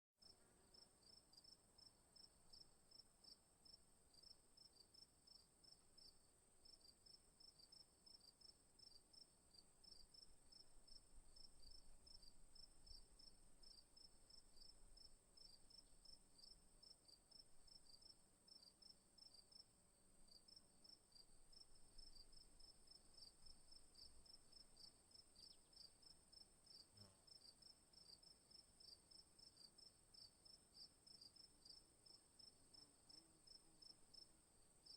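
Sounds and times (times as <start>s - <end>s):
crickets chirping: 0.7s - 19.7s, 20.3s - 34.9s.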